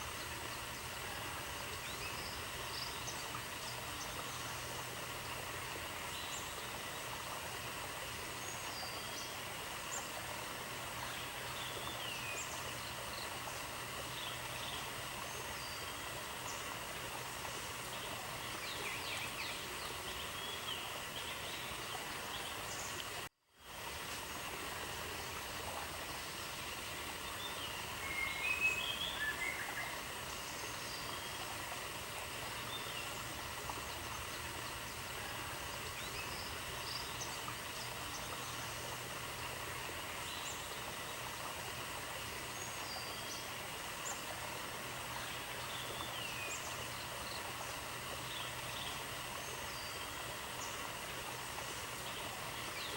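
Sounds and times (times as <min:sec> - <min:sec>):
steady outdoor hiss: 0:00.0 - 0:52.9.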